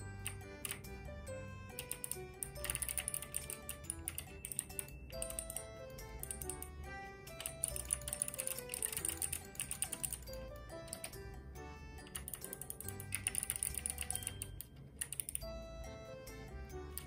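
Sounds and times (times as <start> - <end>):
light melody with clicky percussion: 0.0 - 17.0.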